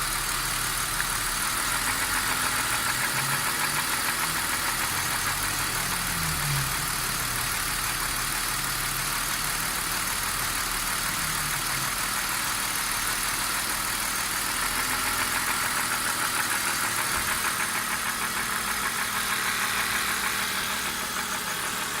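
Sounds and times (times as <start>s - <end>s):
car engine idling with knocking: 0.0s - 22.0s.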